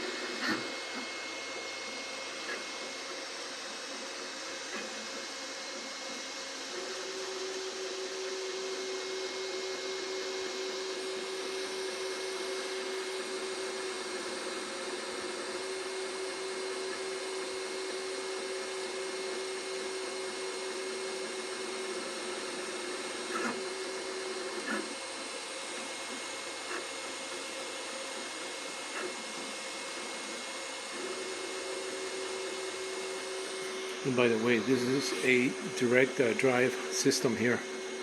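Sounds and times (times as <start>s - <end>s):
cooling fans hissing: 0.0s - 38.0s
printer motor hum: 0.0s - 38.0s.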